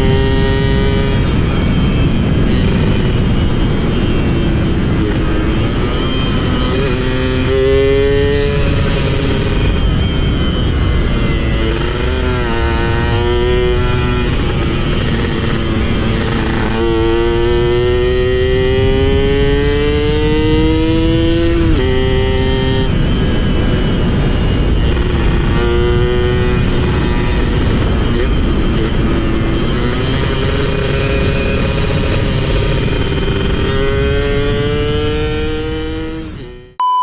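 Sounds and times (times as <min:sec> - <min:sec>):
two-stroke engine accelerating: 0:00.0 - 0:36.8.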